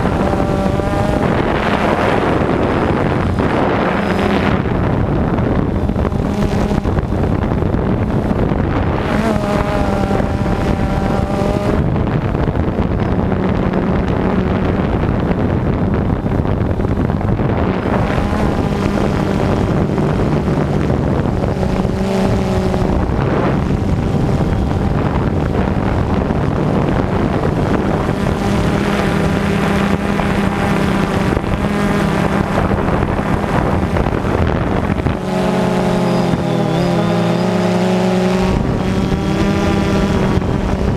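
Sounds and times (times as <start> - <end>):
drone rotors humming: 0.0 - 40.9
wind rush on microphone: 0.0 - 40.9.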